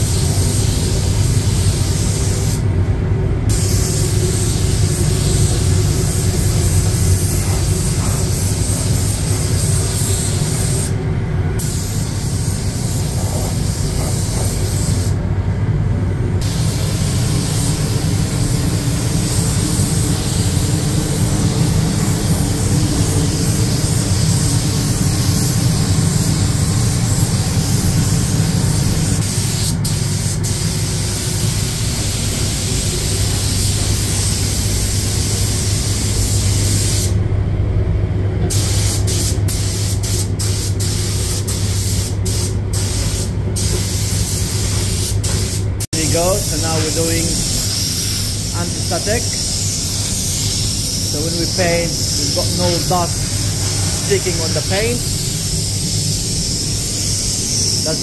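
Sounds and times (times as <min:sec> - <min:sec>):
spray gun hissing: 0:00.0 - 0:02.7, 0:03.5 - 0:11.0, 0:11.6 - 0:15.2, 0:16.4 - 0:37.2, 0:38.5 - 0:58.0
steady low hum: 0:00.0 - 0:58.0.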